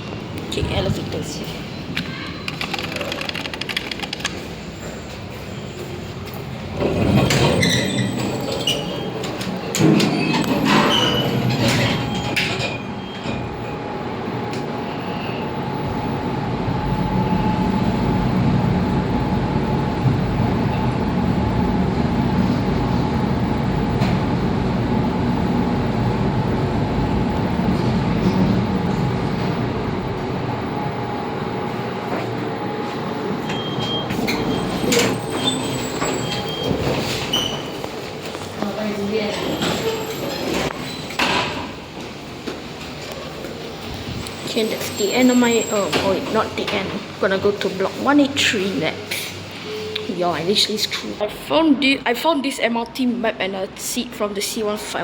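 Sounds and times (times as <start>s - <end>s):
lift rumbling: 4.2s - 51.5s.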